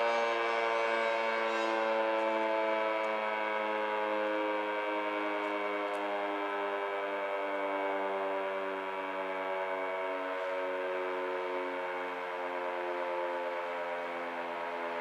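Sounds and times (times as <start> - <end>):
dual-tone warning siren: 0.0 - 15.0.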